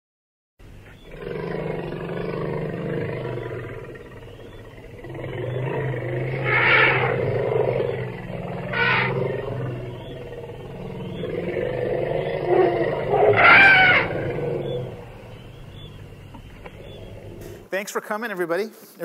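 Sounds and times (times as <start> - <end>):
low steady hum: 0.6 - 17.7
animal roaring and growling: 1.0 - 17.7.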